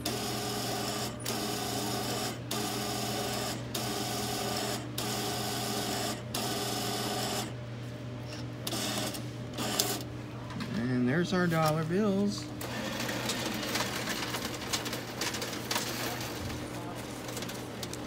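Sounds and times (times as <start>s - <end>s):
receipt printer whirring: 0.0s - 7.6s, 8.2s - 18.0s.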